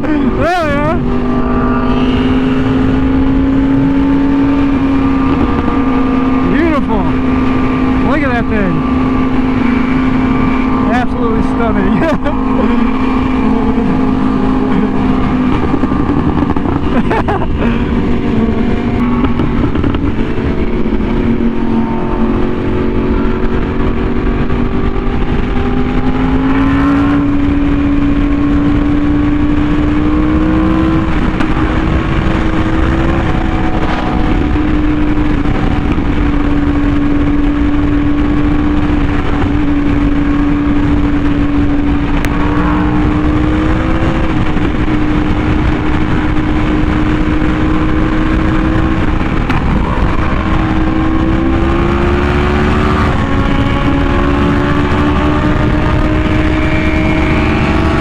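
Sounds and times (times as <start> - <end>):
motorcycle engine running hard: 0.0 - 58.0
wind rushing: 0.0 - 58.0.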